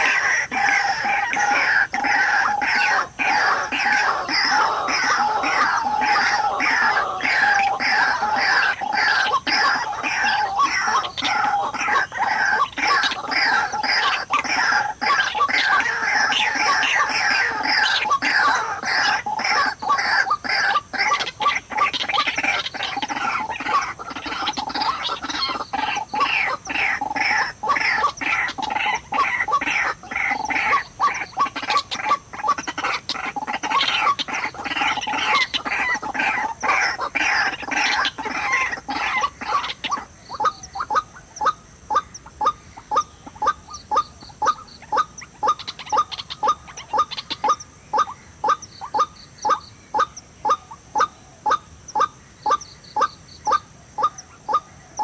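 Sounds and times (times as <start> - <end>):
waterhen croaking calls: 0.0 - 55.0.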